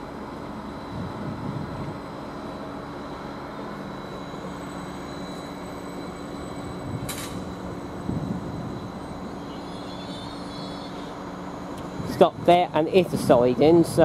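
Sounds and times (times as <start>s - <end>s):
faint high whine: 0.0s - 14.0s
train engine hum: 0.0s - 14.0s.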